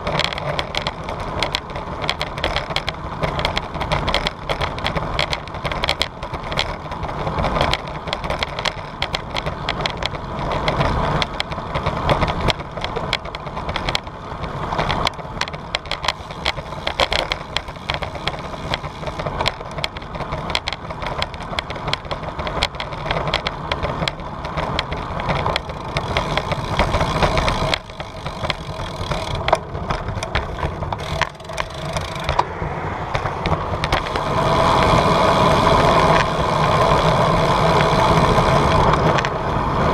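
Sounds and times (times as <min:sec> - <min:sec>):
bicycle rattling and clicking: 0:00.0 - 0:39.9
bicycle rolling noise: 0:00.0 - 0:39.9.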